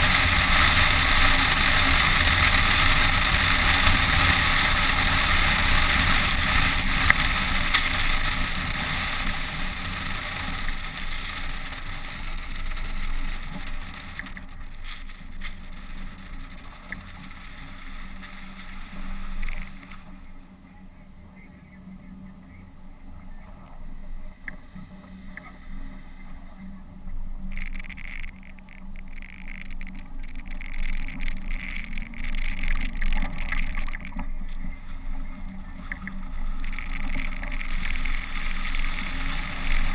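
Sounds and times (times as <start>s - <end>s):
tyre noise on snow: 0.0s - 20.3s, 27.6s - 39.9s
low engine hum: 0.0s - 39.9s.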